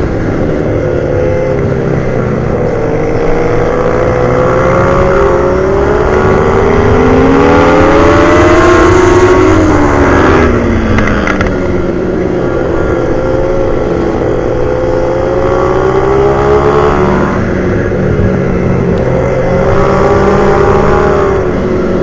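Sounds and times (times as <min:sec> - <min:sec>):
motorcycle engine racing: 0:00.0 - 0:22.0.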